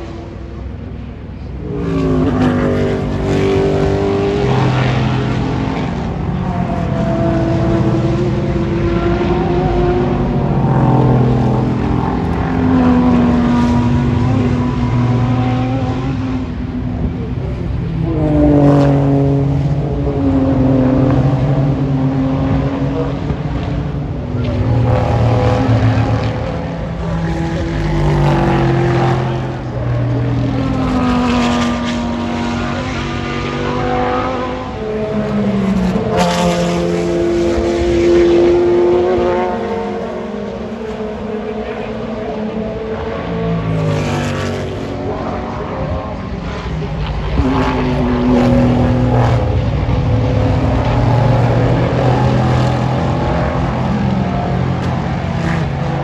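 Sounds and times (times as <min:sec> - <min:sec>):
race cars passing: 0:00.0 - 0:56.0.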